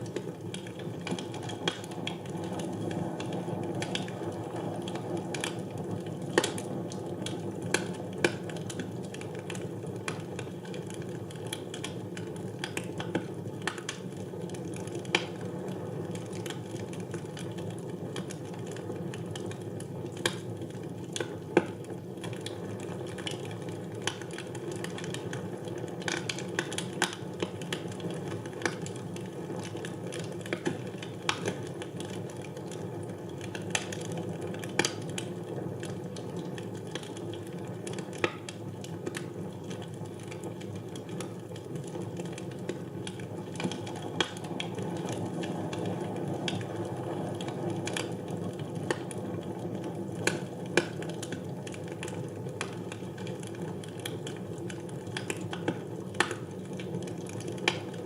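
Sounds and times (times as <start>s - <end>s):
logs crackling and popping: 0.0s - 58.0s.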